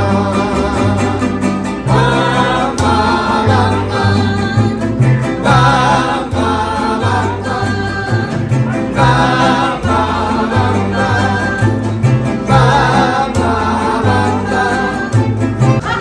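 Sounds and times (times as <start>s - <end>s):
mariachi band playing: 0.0s - 16.0s
person singing: 0.0s - 16.0s.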